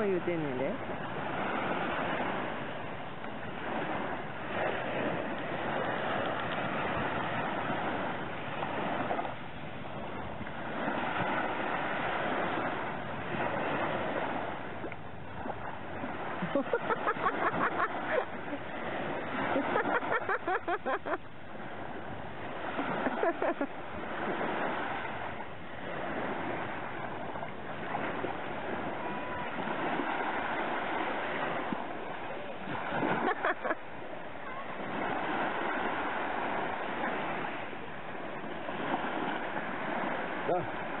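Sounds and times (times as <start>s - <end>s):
small waves breaking on beach: 0.0s - 41.0s.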